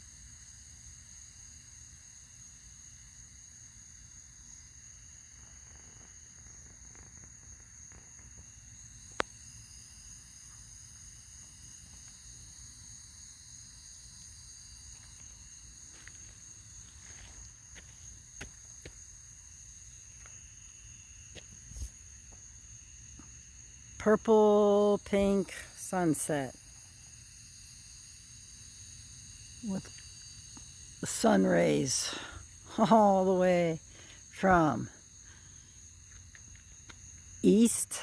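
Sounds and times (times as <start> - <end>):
insects chorus: 0.0 - 38.0.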